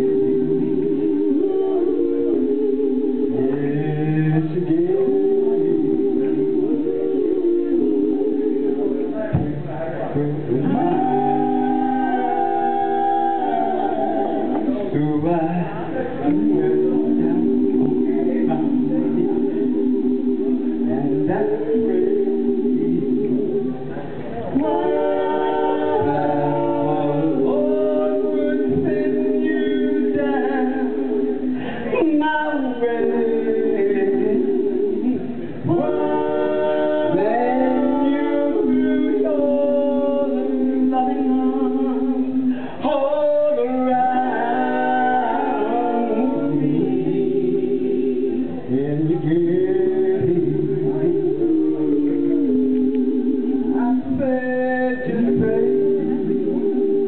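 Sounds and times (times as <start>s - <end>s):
a cappella group singing harmony: 0.0s - 57.0s.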